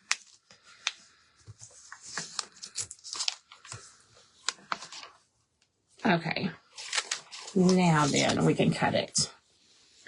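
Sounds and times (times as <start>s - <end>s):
paper crinkling and folding: 0.0s - 5.3s, 6.4s - 10.0s.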